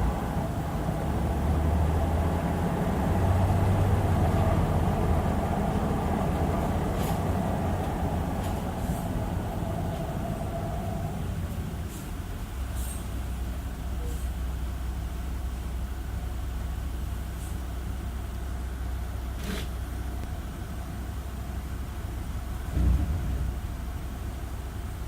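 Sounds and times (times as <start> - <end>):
bus engine rumbling: 0.0 - 25.0.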